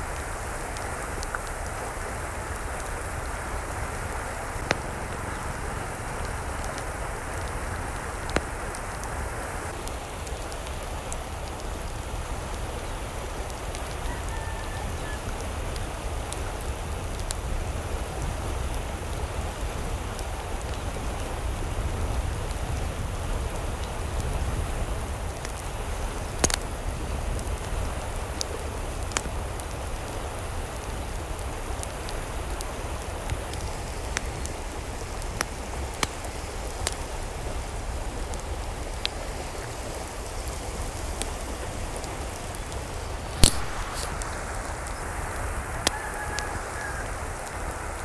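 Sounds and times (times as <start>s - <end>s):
steady rain: 0.0s - 48.0s.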